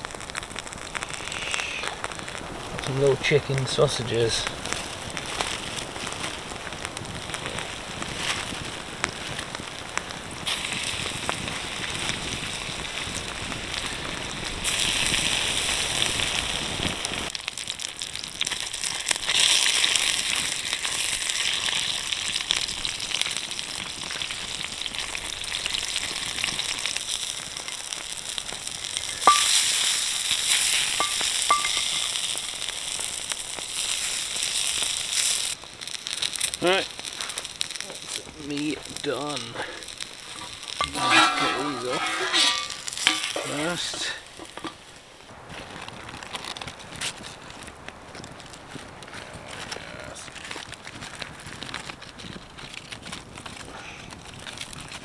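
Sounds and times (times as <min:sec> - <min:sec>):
sausages sizzling in frying pan: 0:00.0 - 0:55.0.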